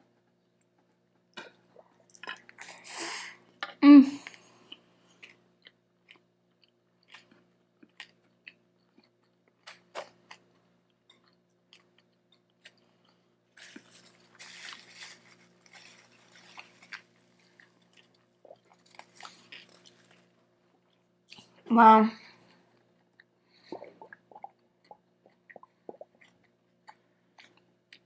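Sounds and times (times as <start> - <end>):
person chewing with small crunches: 0.5 - 21.7, 22.3 - 28.0.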